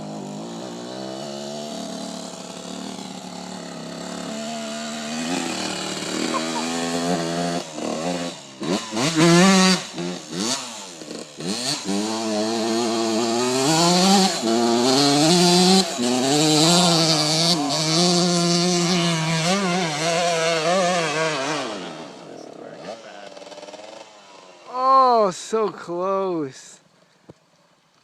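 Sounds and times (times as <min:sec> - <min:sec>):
dirt bike engine revving hard: 0:00.0 - 0:25.4.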